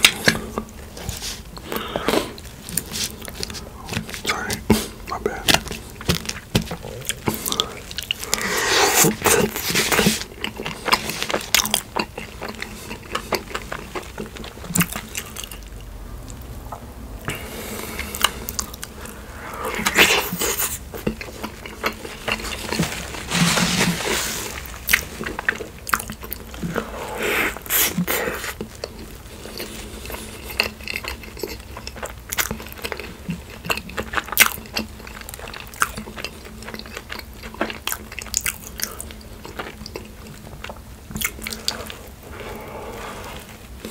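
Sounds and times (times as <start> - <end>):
close chewing and biting: 0.0 - 43.9.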